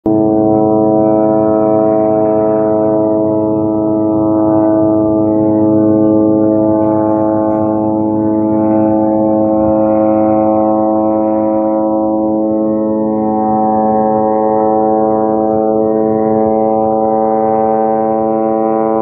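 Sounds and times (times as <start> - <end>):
low horn-like drone: 0.0 - 19.0.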